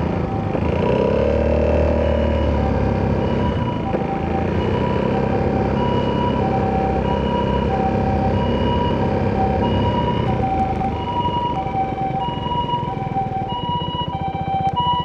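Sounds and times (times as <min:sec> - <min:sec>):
scooter engine idling: 0:00.0 - 0:15.0
two-tone emergency siren: 0:00.0 - 0:15.0.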